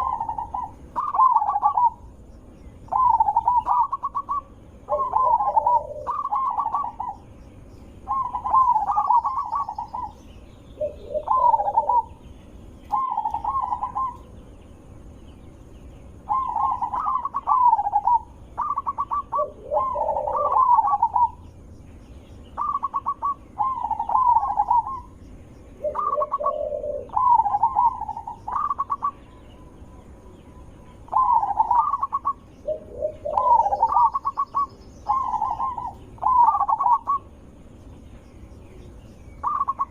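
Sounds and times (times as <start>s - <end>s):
dove cooing: 0.0s - 2.2s, 2.9s - 7.3s, 8.0s - 14.3s, 16.2s - 21.5s, 22.5s - 37.4s, 39.4s - 39.9s.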